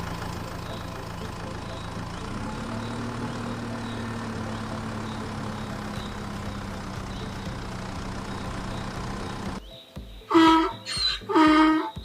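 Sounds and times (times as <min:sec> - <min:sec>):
faint high chirp: 0:00.6 - 0:12.0.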